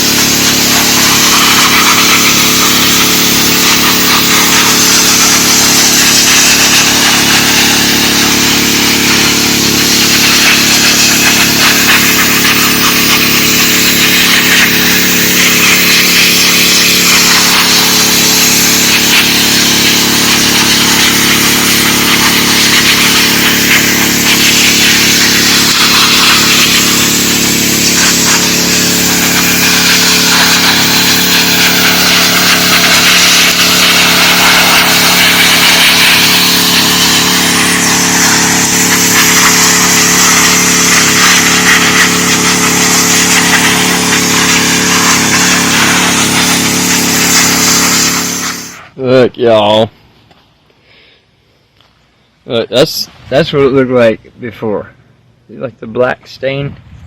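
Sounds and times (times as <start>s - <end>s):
high-pressure spray hissing on concrete: 0.0s - 49.0s
pressure washer engine hum: 0.0s - 49.0s.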